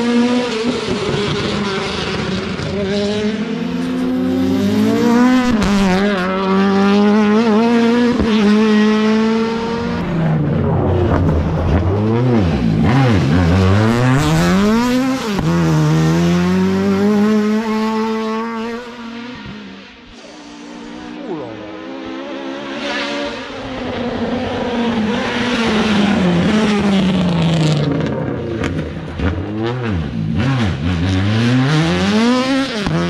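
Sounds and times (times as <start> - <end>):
rally car engine at high revs: 0.0 - 33.0.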